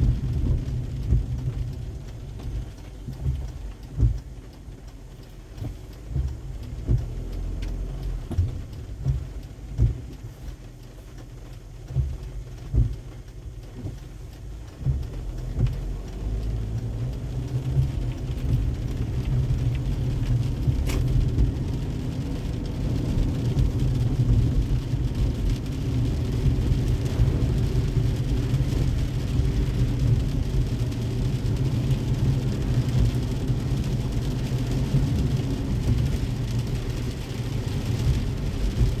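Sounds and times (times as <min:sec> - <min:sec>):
car engine and road rumble: 0:00.0 - 0:39.0
rain: 0:00.0 - 0:39.0.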